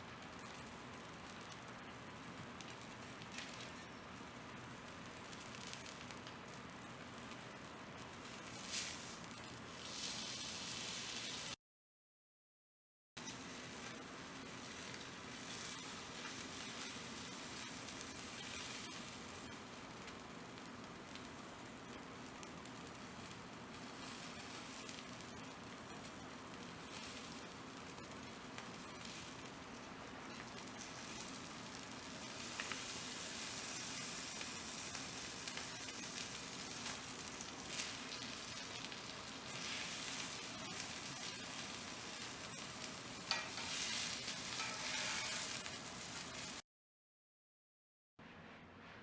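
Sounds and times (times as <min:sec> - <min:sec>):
steak sizzling: 0:00.2 - 0:11.6, 0:13.2 - 0:46.6.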